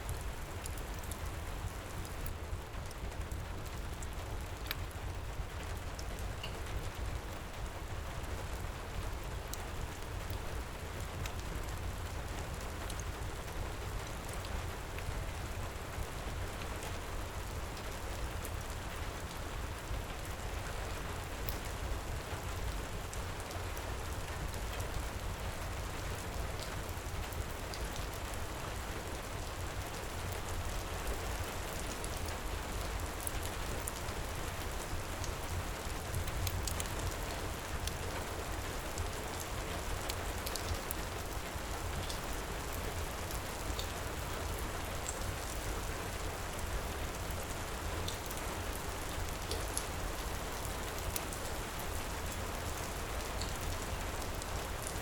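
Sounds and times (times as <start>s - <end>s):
faint wood fire crackles: 0.0s - 55.0s
heavy rain pouring: 0.1s - 55.0s.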